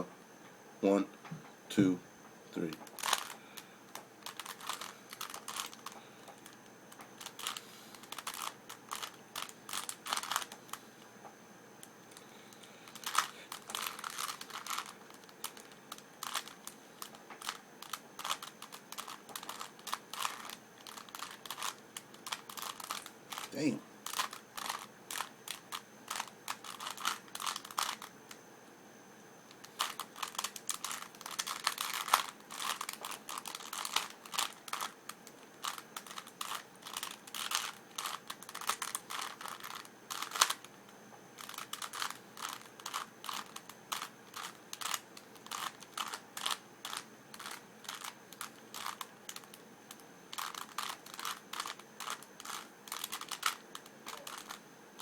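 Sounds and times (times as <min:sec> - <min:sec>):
puzzle cube plastic clicks: 0:02.6 - 0:10.8, 0:12.9 - 0:28.1, 0:29.5 - 0:40.8, 0:41.4 - 0:54.6.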